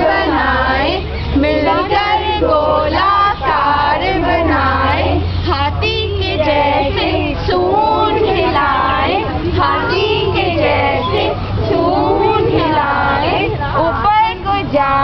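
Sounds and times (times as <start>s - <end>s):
small children singing: 0.0s - 15.0s
women singing: 0.0s - 15.0s.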